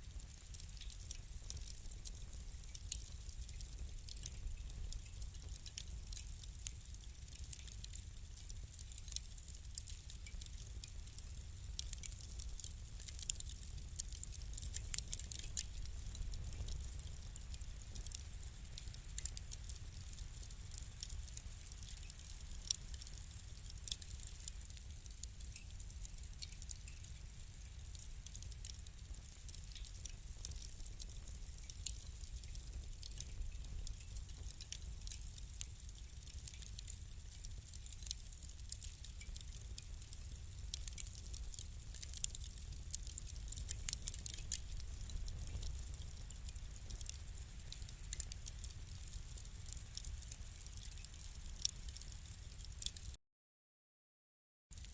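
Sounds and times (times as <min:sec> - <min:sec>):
fire crackling and popping: 0:00.0 - 0:53.2.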